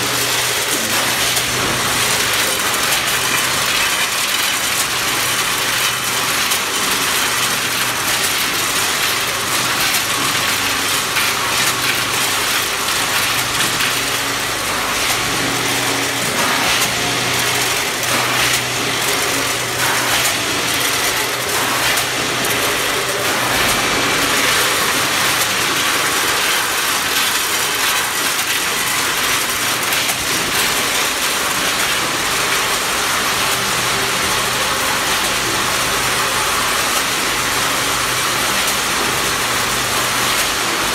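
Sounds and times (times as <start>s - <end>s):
machinery hum: 0.0s - 40.9s.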